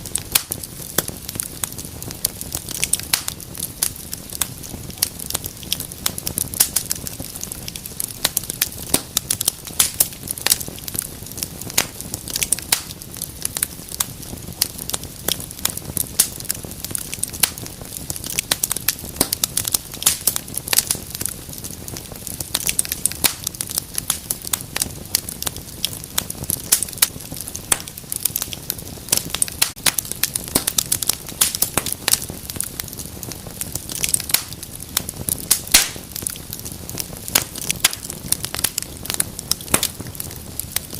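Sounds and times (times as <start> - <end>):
low rumble of flames: 0.0 - 40.9
wood fire crackling: 0.0 - 40.9.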